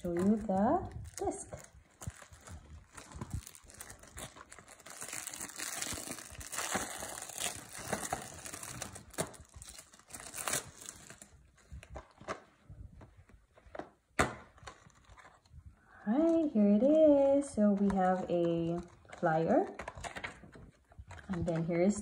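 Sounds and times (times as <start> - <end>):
plastic shrink wrap crinkling: 0.0 - 21.6.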